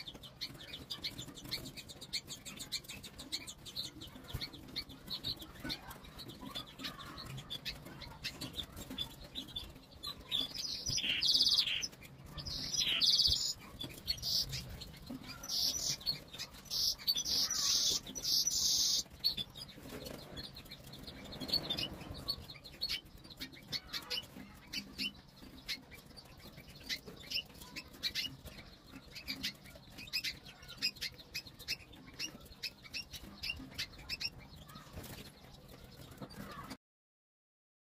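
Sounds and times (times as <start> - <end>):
canary chirping: 0.0 - 36.8.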